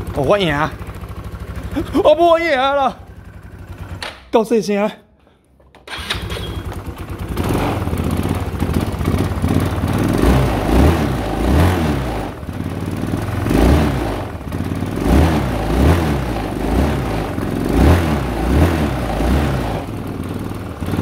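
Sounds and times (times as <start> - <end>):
scooter engine starting and revving: 0.0 - 4.3, 5.7 - 21.0.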